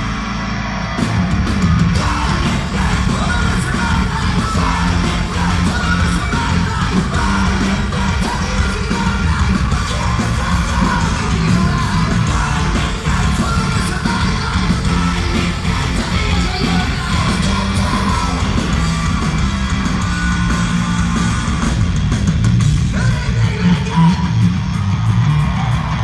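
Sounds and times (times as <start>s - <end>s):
live punk rock band: 0.0s - 26.0s.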